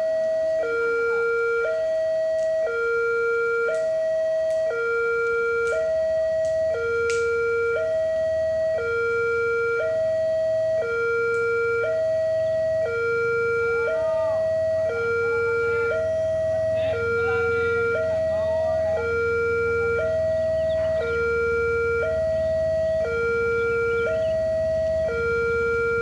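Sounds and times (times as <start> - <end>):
level crossing two-tone alarm: 0.0 - 26.0.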